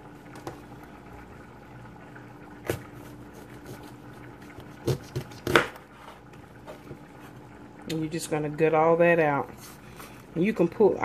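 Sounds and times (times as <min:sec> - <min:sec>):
low hum and faint hiss: 0:00.0 - 0:11.0.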